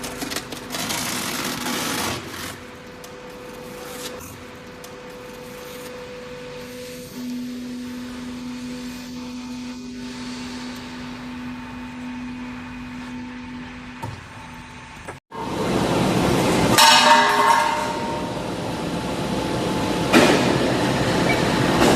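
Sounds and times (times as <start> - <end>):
hydraulic power unit humming: 0.0 - 21.9.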